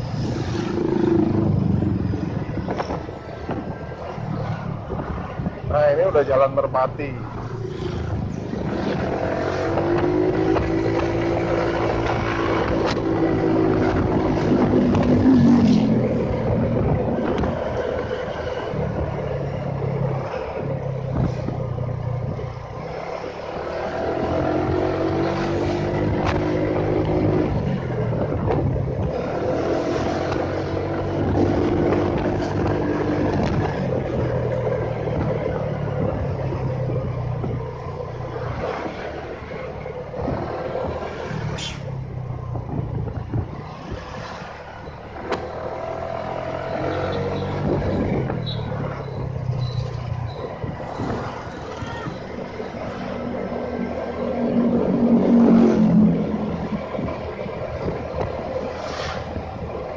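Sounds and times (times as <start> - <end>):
road and wind noise: 0.0 - 59.9
motorcycle engine revving: 7.2 - 59.9.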